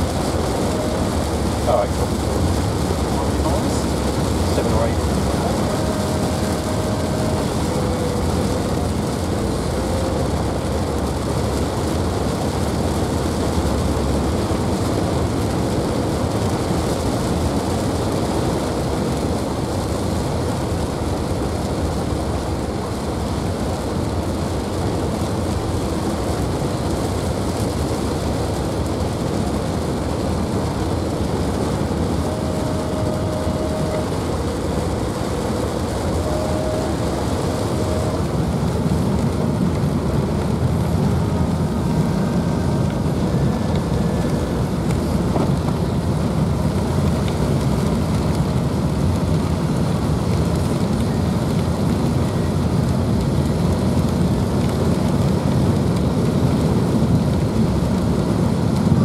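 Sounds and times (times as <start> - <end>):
heavy rain on car roof: 0.0 - 59.0
tyre and road noise: 0.0 - 59.0.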